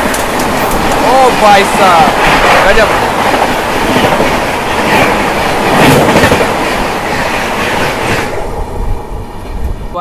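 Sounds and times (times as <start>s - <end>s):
passing train rushing: 0.0s - 10.0s.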